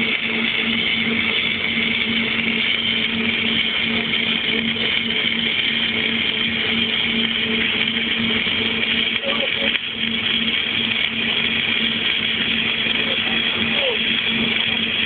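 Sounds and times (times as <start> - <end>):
welding arc hissing: 0.0 - 15.0
welding machine hum: 0.0 - 15.0.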